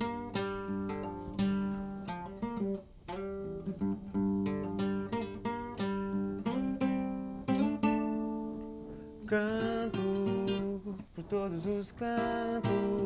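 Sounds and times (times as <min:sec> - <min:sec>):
acoustic guitar fingerpicking: 0:00.0 - 0:13.0.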